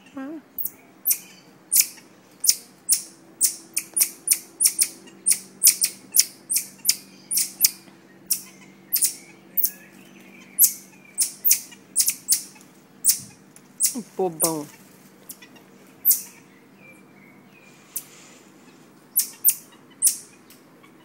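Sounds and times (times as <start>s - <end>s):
marmosets chirping: 0.6s - 14.7s, 15.3s - 18.2s, 19.1s - 21.0s.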